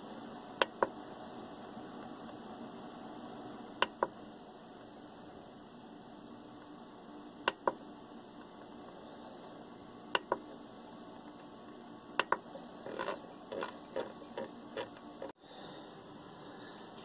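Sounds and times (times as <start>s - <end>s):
low fan hum: 0.0s - 17.0s.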